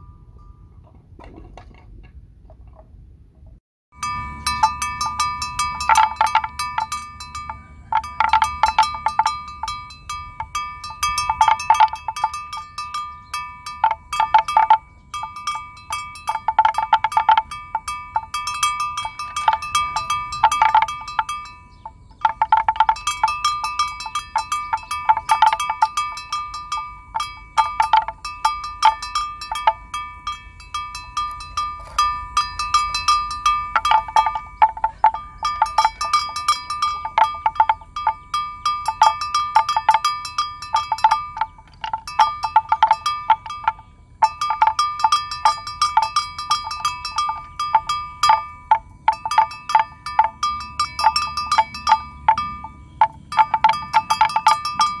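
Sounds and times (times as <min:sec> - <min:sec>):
animal bell clanking: 0:00.0 - 0:01.8, 0:03.9 - 0:55.0.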